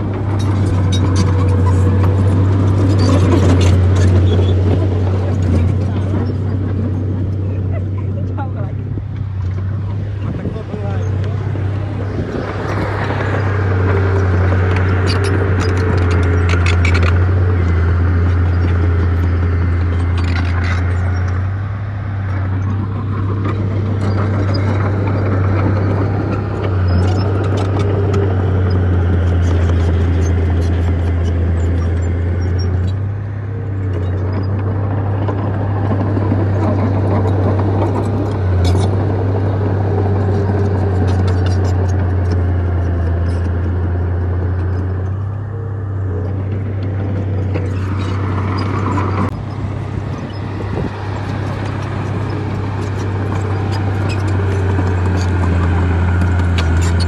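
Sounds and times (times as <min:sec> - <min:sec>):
bulldozer diesel engine under load: 0:00.0 - 0:57.0
clanking tracks and rocks: 0:00.0 - 0:57.0.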